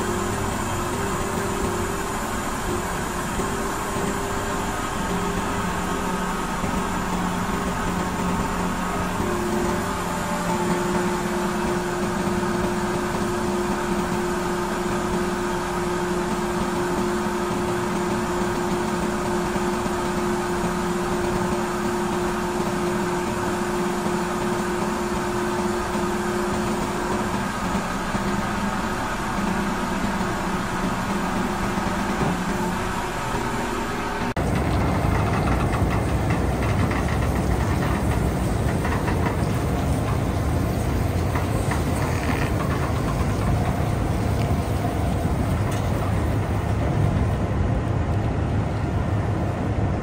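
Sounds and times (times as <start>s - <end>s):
hydraulic whine: 0.0s - 48.2s
diesel engine running: 0.0s - 50.0s.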